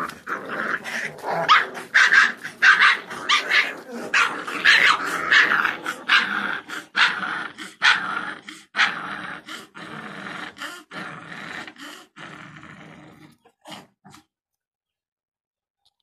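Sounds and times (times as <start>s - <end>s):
puppies growling and yipping: 0.0s - 14.2s.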